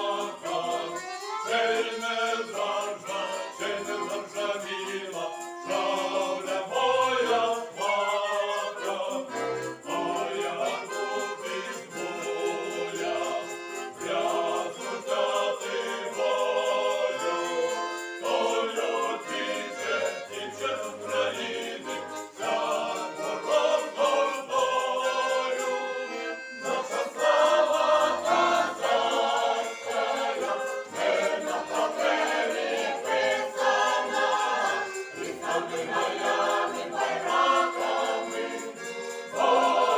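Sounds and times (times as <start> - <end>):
button accordion: 0.0 - 39.9
folk choir singing in harmony: 0.0 - 39.9
violin: 0.0 - 39.9.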